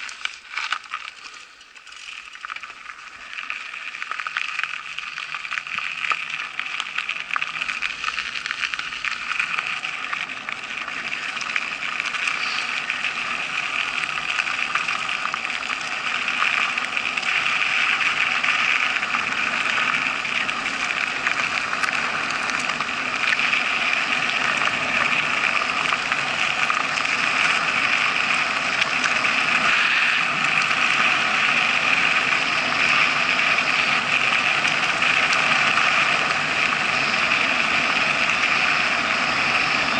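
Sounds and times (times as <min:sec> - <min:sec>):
bike tyres rolling on gravel: 0:00.0 - 0:39.9.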